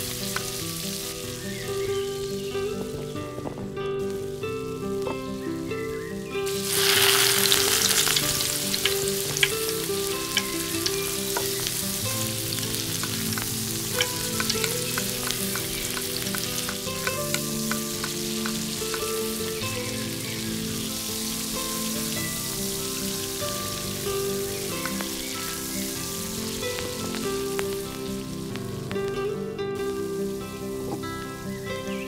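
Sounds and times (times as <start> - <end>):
food sizzling in hot oil: 0.0 - 29.2, 29.8 - 32.0
crackles and pops: 0.0 - 32.0
soft background music: 0.0 - 32.0.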